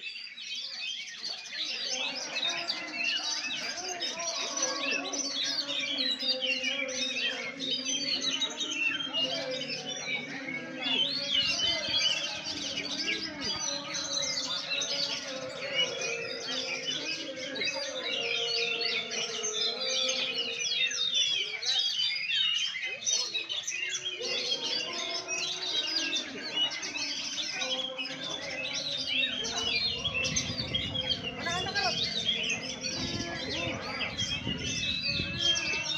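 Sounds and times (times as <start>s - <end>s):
birds singing chirps and whistles: 0.0s - 35.9s.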